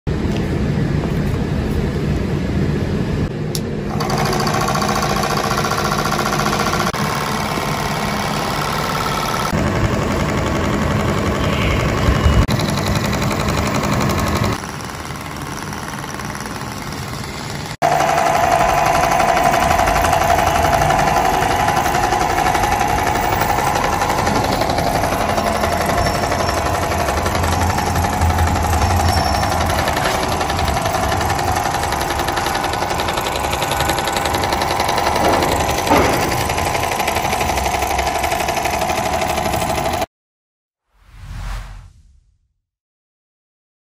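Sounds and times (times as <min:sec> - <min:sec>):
small diesel engine knocking: 0:03.9 - 0:40.1.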